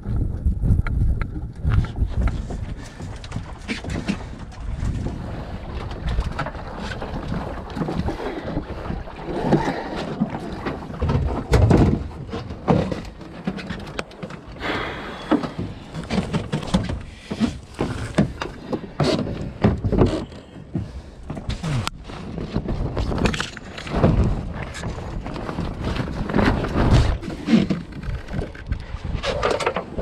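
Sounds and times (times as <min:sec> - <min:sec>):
knocks and clatter on sailing dinghy: 0:00.0 - 0:30.0.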